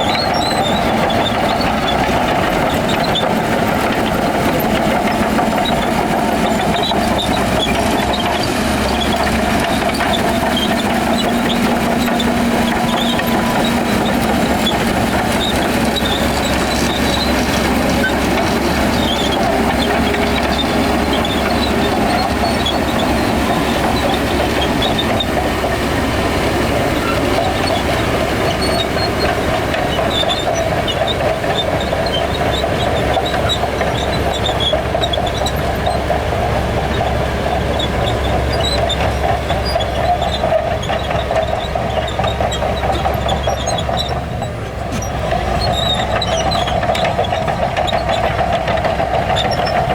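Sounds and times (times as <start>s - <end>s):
bulldozer diesel engine running: 0.0s - 49.9s
steel tracks clanking and squeaking: 0.0s - 49.9s.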